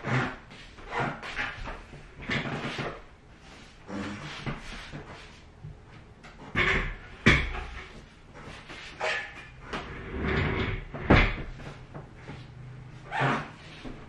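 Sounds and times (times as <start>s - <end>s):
table legs scraping floor: 0.0s - 5.5s, 6.3s - 14.0s.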